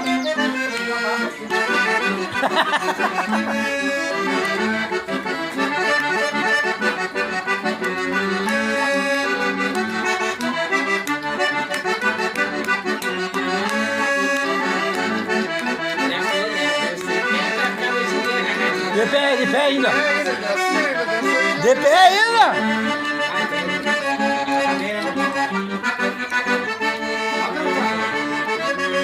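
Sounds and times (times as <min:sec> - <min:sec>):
accordion playing: 0:00.0 - 0:29.0.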